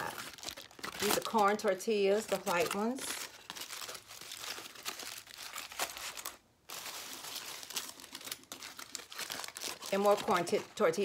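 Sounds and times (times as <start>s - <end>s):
foil and plastic bag crinkling: 0.0s - 11.0s.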